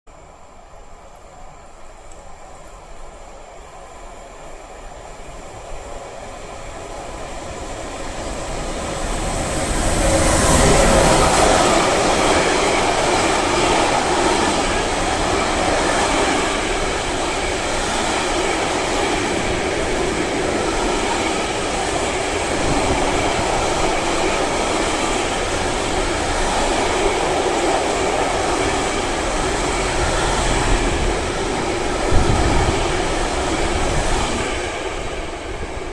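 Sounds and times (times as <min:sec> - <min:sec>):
freight train passing: 0:00.1 - 0:35.9
wagons rumbling on rails: 0:03.0 - 0:35.9.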